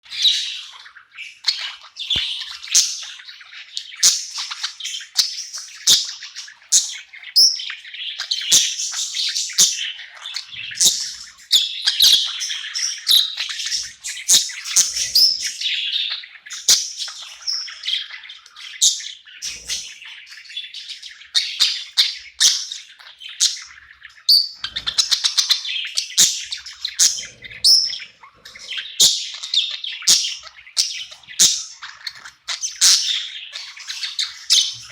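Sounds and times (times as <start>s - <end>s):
budgerigars chirping and warbling: 0.0s - 34.9s.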